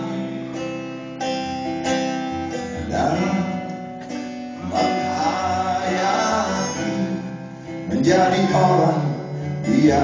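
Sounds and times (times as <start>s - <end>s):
live acoustic guitar music: 0.0s - 10.0s.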